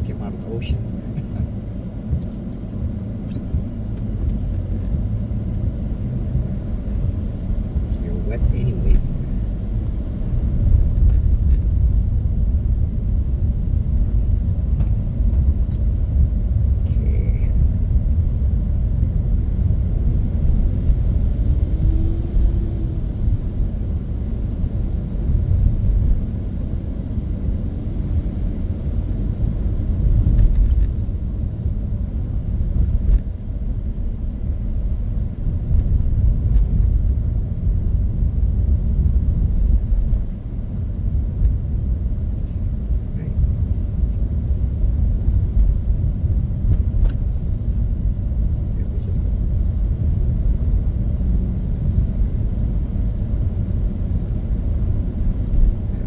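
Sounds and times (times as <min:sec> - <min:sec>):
car driving on wet road: 0:00.0 - 0:56.0.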